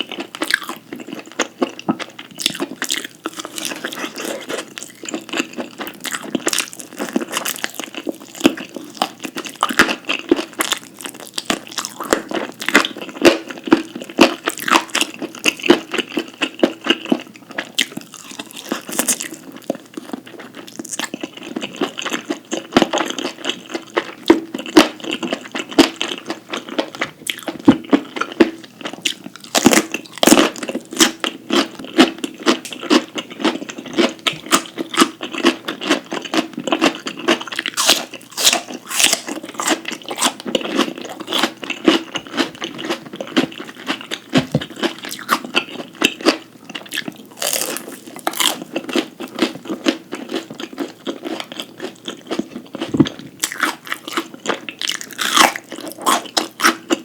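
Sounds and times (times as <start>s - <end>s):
person chewing crisp food: 0.0s - 57.0s.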